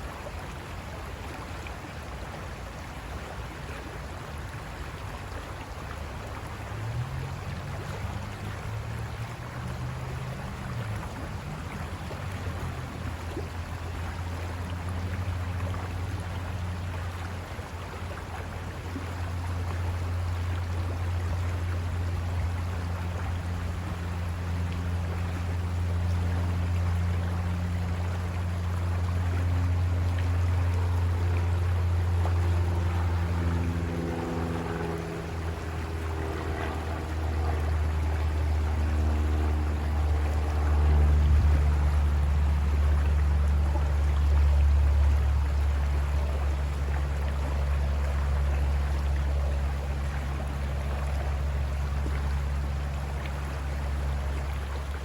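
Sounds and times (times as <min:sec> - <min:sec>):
low engine hum: 0:00.0 - 0:55.0
river water rushing over rocks: 0:00.0 - 0:55.0.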